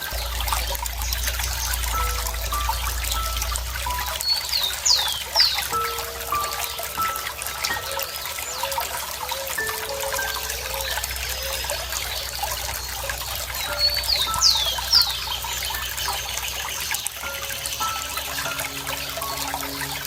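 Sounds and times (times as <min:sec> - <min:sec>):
high bird chirps: 0:00.0 - 0:20.0
water trickling and bubbling: 0:00.0 - 0:20.0.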